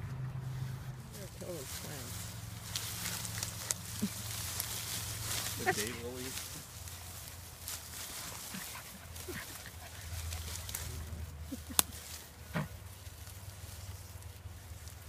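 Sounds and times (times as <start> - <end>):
puppies making soft sounds: 0.0 - 13.4.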